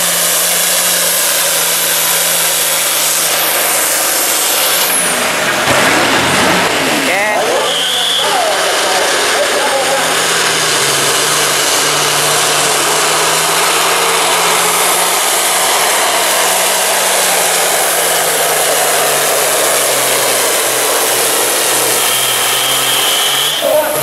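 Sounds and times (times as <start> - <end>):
diesel tractor engine at full throttle: 0.0 - 24.0
turbo rush: 0.0 - 24.0.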